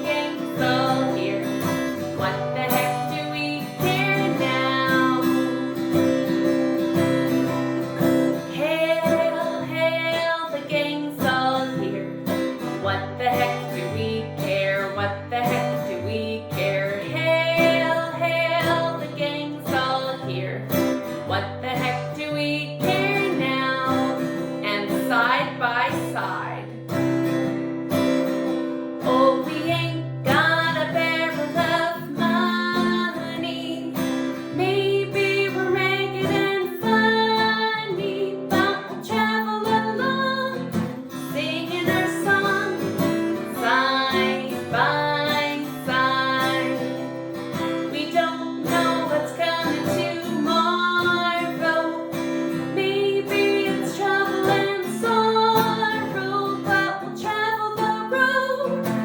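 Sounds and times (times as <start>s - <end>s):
strummed acoustic guitar: 0.0s - 59.0s.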